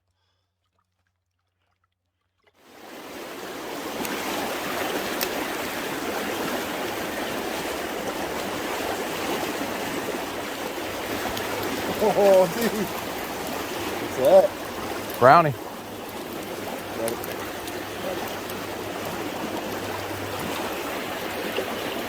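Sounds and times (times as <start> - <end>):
stream rushing: 2.6 - 22.0.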